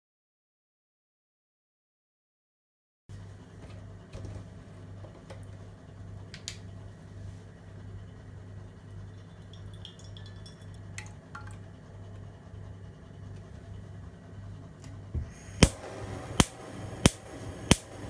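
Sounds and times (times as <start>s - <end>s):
steady low hum: 3.1s - 18.0s.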